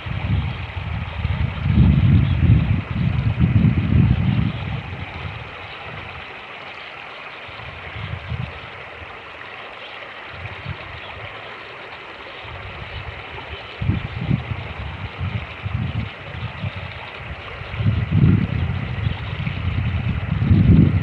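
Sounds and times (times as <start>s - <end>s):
wind rumbling on microphone: 0.0s - 6.3s, 7.5s - 9.2s, 10.3s - 11.5s, 12.4s - 21.0s
creek rushing: 0.0s - 21.0s.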